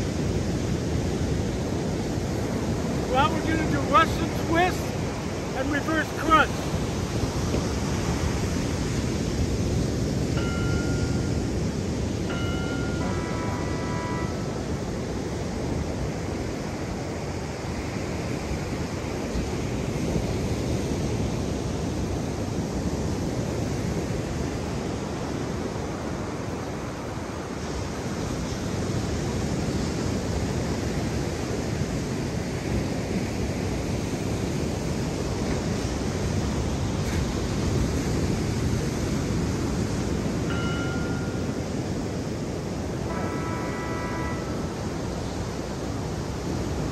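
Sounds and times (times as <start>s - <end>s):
ocean surf rushing: 0.0s - 46.9s
wind on microphone: 6.2s - 46.9s.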